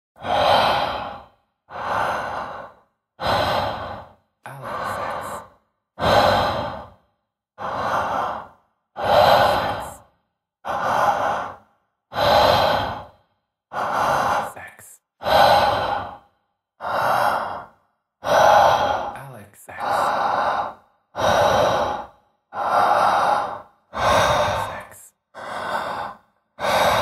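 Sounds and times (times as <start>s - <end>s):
man breathing loudly: 0.2s - 27.0s.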